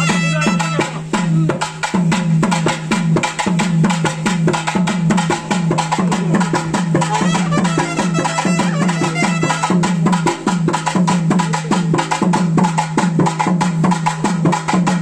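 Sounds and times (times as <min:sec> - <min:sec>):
fast drumming: 0:00.0 - 0:15.0.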